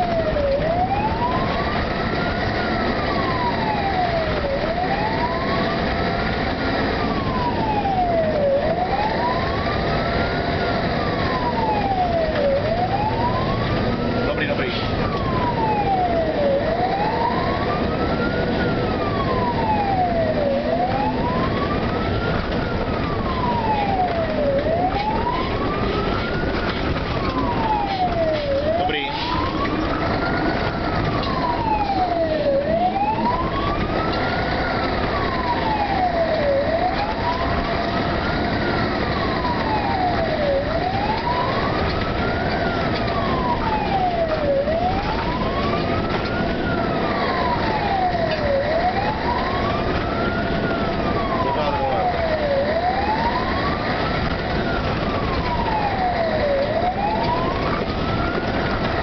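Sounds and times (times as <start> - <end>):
engine and road noise: 0.0 - 59.0
fire engine siren wailing: 0.0 - 59.0.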